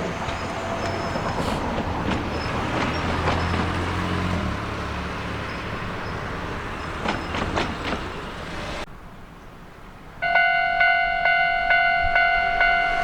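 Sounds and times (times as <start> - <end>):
electric train hum: 0.0 - 9.1, 9.8 - 13.0.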